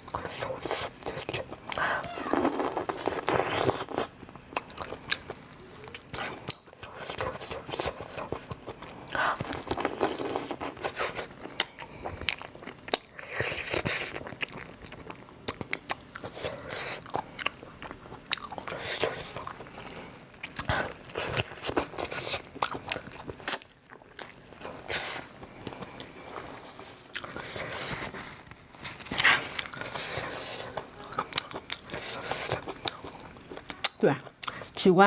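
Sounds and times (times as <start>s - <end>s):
person chewing crunchy food: 0.0s - 34.8s.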